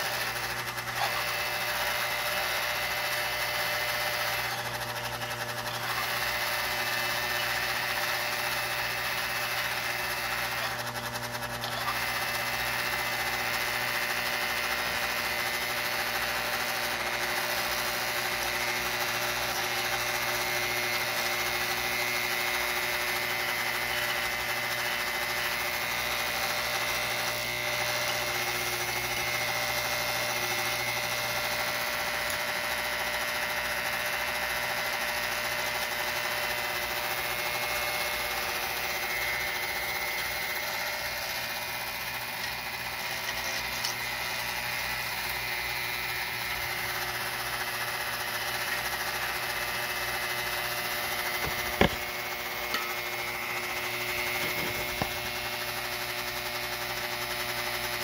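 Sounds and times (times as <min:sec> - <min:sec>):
solenoid vibrator buzzing: 0:00.0 - 0:58.0.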